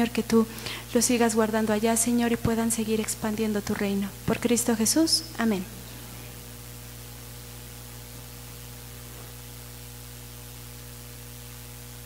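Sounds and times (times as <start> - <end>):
electrical hum with hiss: 0.0 - 12.0.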